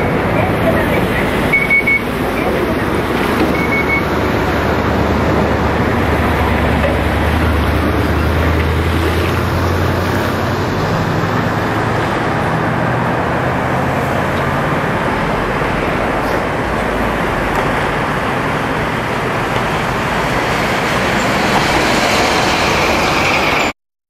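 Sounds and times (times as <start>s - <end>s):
diesel locomotive engine drone: 0.0s - 23.7s
steady rushing noise: 0.0s - 23.7s.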